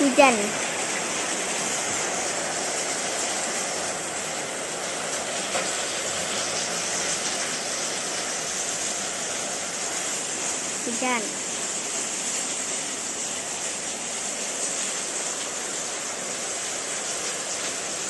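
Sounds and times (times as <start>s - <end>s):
rain on tiles and concrete: 0.0s - 18.0s.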